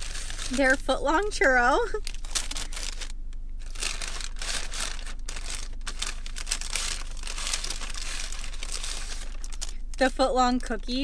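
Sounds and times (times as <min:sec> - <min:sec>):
paper bag crinkling and rustling: 0:00.0 - 0:11.0.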